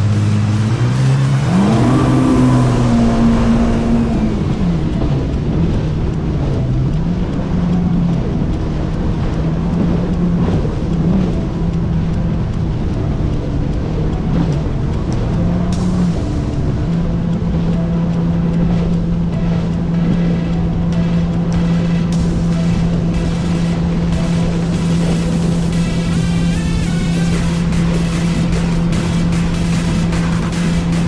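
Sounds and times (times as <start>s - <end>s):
jet ski engine revving: 0.0s - 31.0s.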